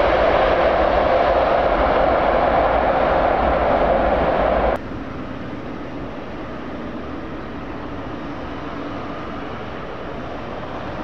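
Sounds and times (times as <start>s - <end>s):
faint steady rumble: 0.0s - 11.0s
jet engine roar: 0.0s - 11.0s.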